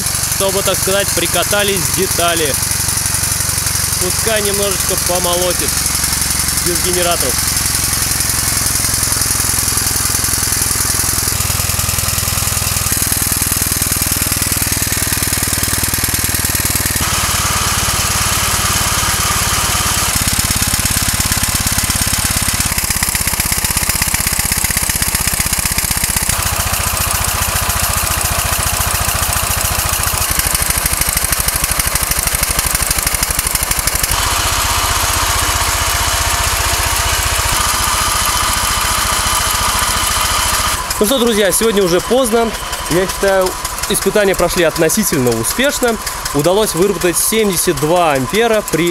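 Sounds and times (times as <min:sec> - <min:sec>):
steam engine running: 0:00.0 - 0:48.9.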